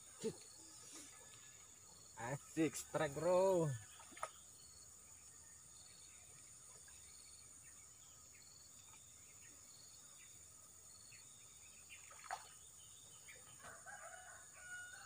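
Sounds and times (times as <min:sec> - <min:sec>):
insect chirp: 0:00.0 - 0:15.0
insect chorus drone: 0:00.0 - 0:15.0.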